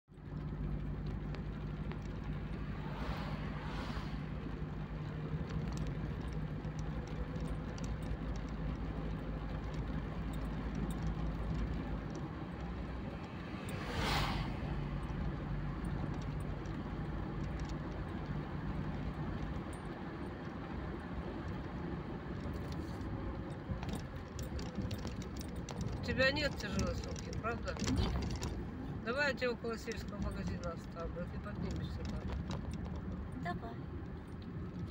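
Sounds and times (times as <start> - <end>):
car engine and tyre noise: 0.1 - 34.9
passing vehicles swishing by: 0.1 - 34.9.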